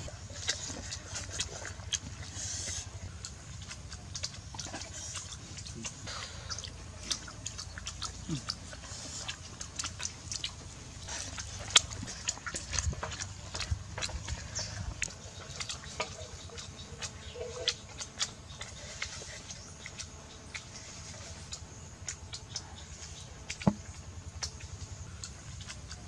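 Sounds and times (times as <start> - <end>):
people chewing and lip smacking: 0.0 - 26.0.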